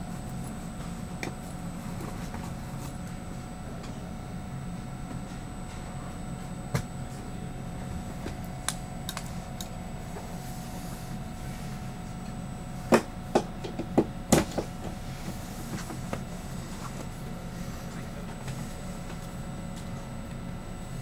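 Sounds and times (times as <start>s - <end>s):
train interior running hum: 0.0s - 21.0s.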